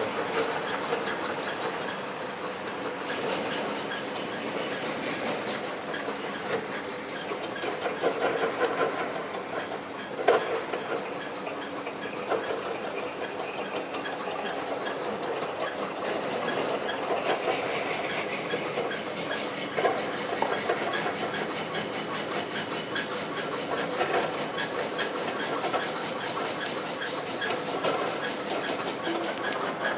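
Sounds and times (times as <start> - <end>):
machine clattering rattle: 0.0 - 29.9.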